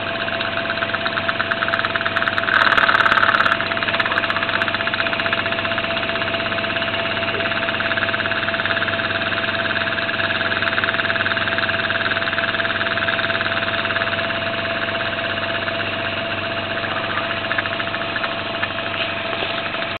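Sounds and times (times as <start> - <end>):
model engine running: 0.0 - 20.0.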